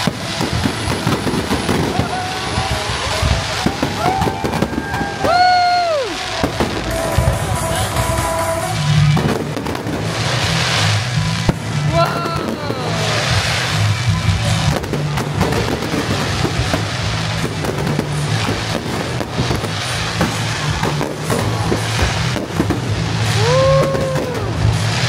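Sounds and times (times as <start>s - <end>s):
fireworks bangs and crackles: 0.0s - 25.0s
music with steady bass: 0.0s - 25.0s.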